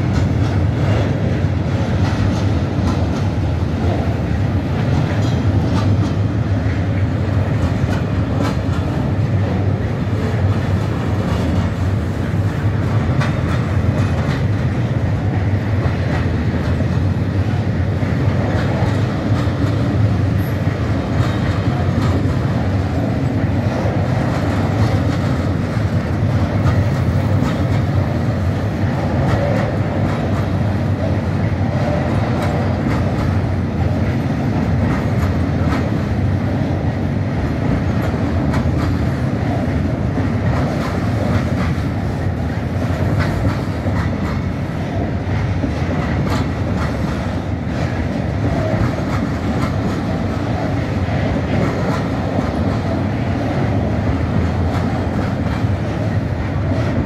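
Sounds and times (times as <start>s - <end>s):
wheels clacking over rail joints: 0.0s - 36.7s, 37.5s - 57.0s
train wheels rumbling on rail: 0.0s - 57.0s.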